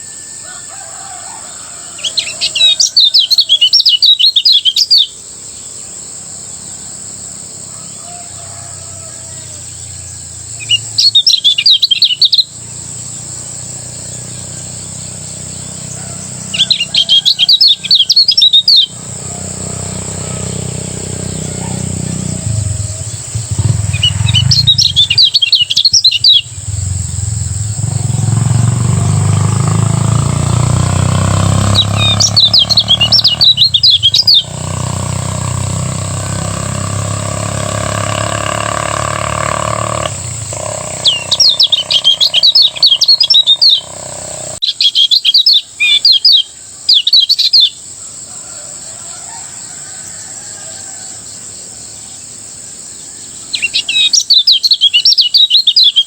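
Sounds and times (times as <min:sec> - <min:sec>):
bird chattering song: 0:01.5 - 0:07.1, 0:09.0 - 0:47.8, 0:53.1 - 0:56.0.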